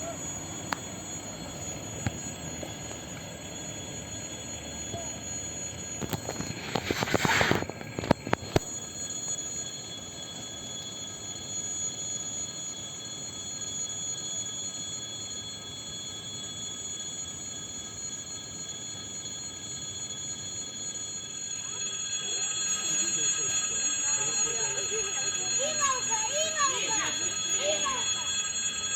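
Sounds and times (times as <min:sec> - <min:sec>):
electric train hum: 0:00.0 - 0:28.9
high-pitched whining tones: 0:00.0 - 0:28.9.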